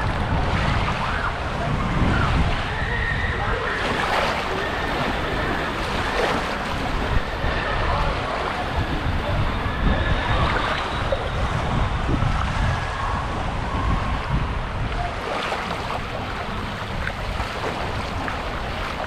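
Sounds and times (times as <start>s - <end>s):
water rushing down a slide: 0.0s - 19.0s
wind buffeting microphone: 0.0s - 19.0s.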